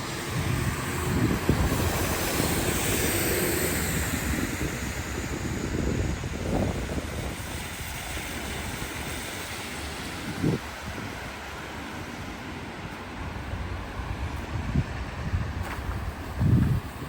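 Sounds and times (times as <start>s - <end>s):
steady rushing outdoor noise: 0.0s - 17.0s.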